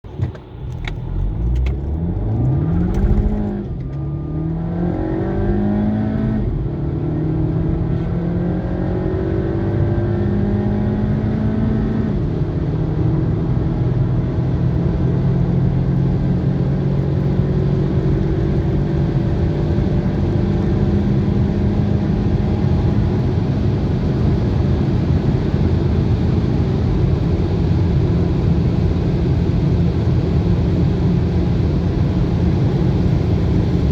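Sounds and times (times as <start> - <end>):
car engine accelerating: 0.0 - 33.9
road and wind noise: 0.0 - 33.9.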